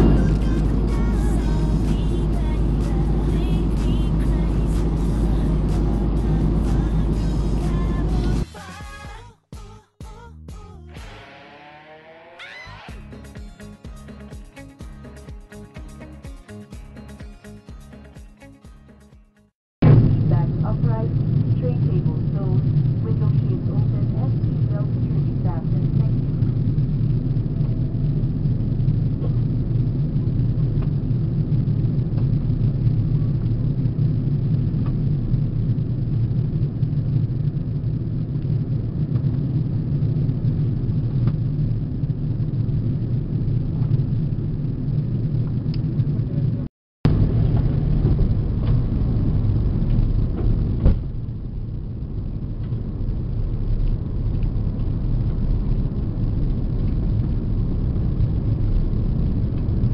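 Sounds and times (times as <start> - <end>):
aircraft cabin engine rumble: 0.0 - 8.5, 19.8 - 59.9.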